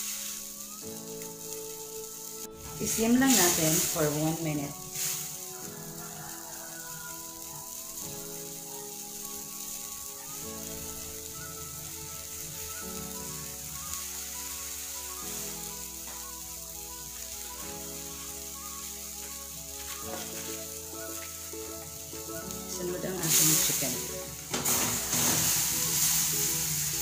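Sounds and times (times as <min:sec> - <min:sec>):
background music of held chords: 0:00.0 - 0:27.0
sauce sizzling in a pan: 0:00.0 - 0:27.0.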